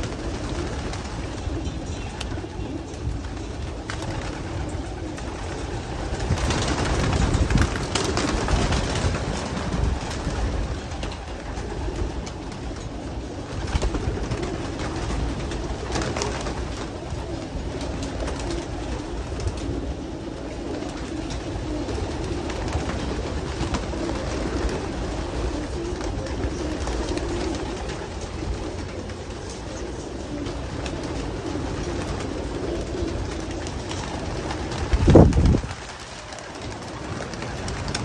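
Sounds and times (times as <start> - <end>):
pigeons cooing: 0.0 - 38.0
wings flapping: 0.0 - 38.0.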